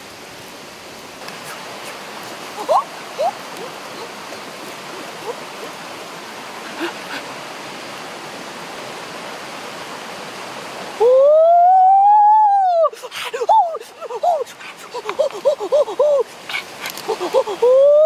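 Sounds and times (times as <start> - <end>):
rushing forest stream: 0.0 - 18.0.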